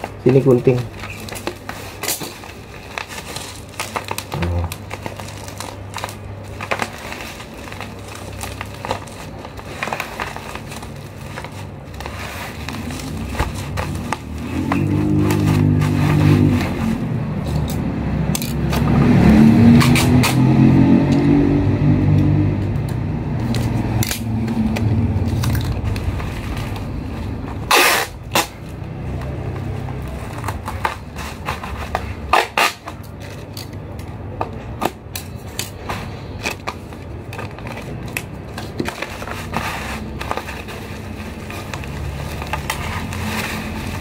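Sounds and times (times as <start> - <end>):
plastic wrap crinkling: 0.0 - 17.6, 23.3 - 44.0
packing tape ripping off roll: 0.0 - 21.4, 22.3 - 34.0, 34.8 - 44.0.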